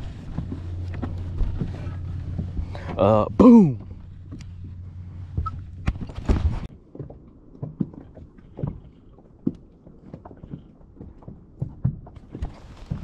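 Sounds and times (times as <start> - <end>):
feet moving on deck: 0.0 - 3.1, 3.8 - 13.0
knocks and thumps on a boat: 0.0 - 3.1, 3.7 - 13.0.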